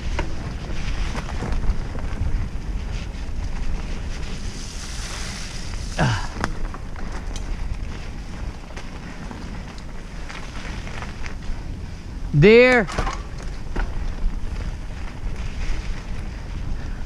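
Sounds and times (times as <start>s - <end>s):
bike tyres on wet dirt: 0.0s - 17.0s
wind on microphone: 0.0s - 17.0s.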